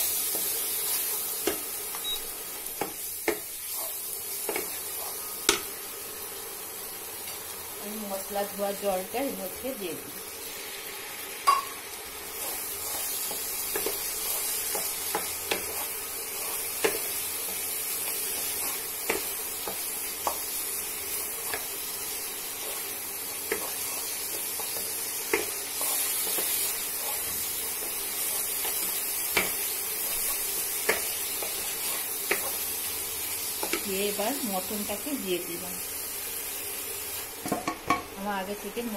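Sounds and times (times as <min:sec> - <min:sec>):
spices sizzling in oil: 0:00.0 - 0:38.9.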